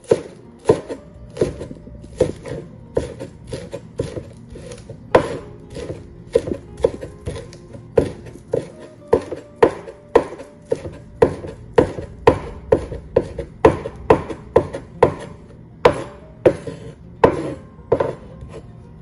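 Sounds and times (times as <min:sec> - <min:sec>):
knife chopping on wooden board: 0:00.0 - 0:18.6.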